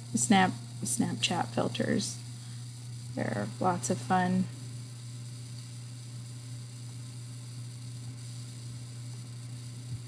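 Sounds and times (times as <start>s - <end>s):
mains hum: 0.0s - 10.0s.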